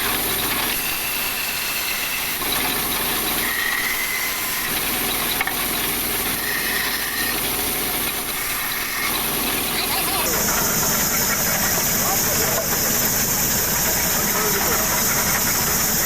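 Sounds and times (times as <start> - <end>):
woodworking machinery running: 0.0 - 16.0.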